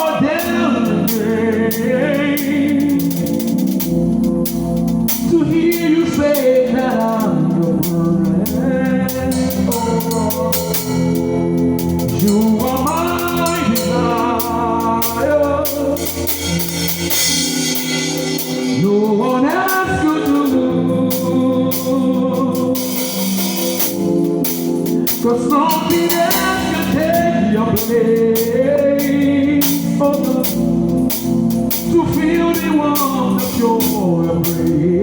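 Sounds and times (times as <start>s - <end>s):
person singing: 0.0s - 3.8s, 5.1s - 24.1s, 24.9s - 35.0s
drums and cymbals: 0.0s - 34.8s
sustained organ chords: 0.0s - 35.0s.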